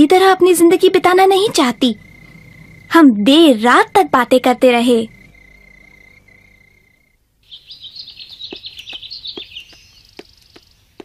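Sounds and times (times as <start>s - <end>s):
birds chirping: 0.0s - 11.0s
high insect trill: 0.0s - 11.0s.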